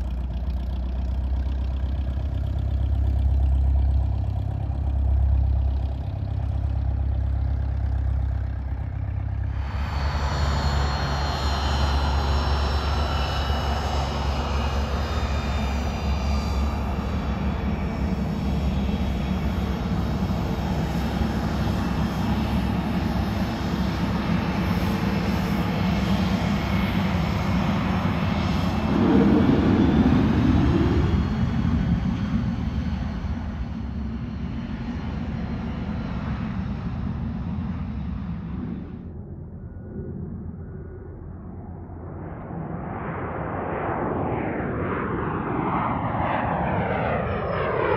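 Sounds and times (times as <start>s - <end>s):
jet rumble with high whine: 0.0s - 47.9s.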